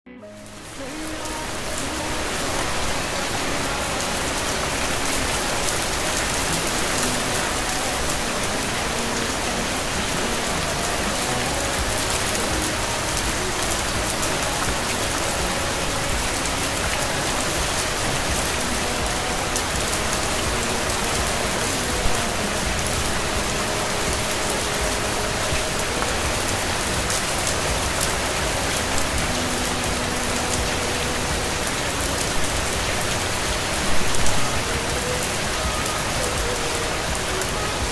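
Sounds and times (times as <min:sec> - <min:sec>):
steady rain hiss: 0:00.2 - 0:37.9.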